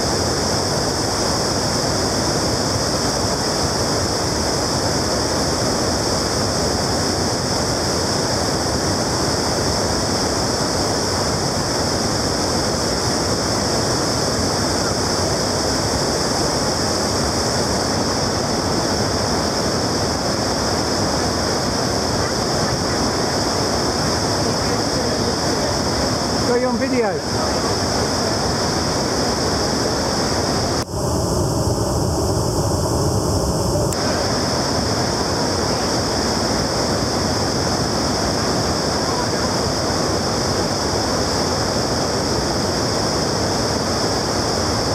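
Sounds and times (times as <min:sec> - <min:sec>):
water rushing over weir: 0:00.0 - 0:44.9.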